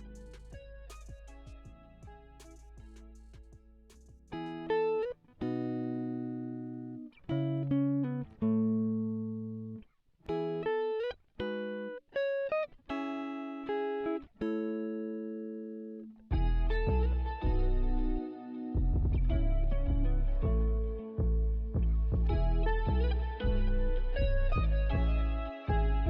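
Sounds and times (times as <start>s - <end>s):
plucked-string melody: 0.0s - 26.0s.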